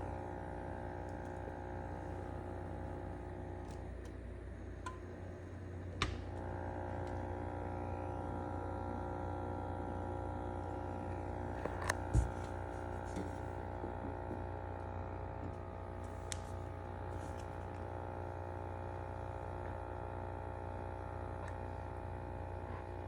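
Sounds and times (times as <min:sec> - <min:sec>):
fridge humming: 0:00.0 - 0:23.0.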